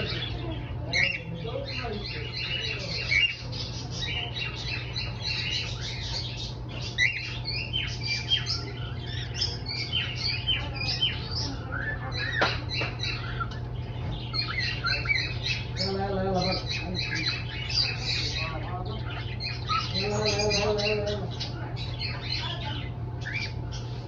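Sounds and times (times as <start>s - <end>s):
cockatiel chirping and squawking: 0.0s - 24.0s
steady low hum: 0.0s - 24.0s.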